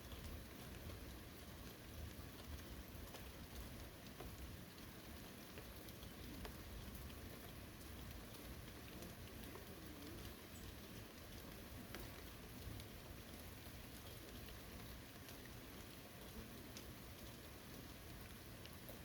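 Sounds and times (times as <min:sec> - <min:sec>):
rain hissing: 0:00.0 - 0:19.0
single raindrops ticking: 0:00.0 - 0:19.0.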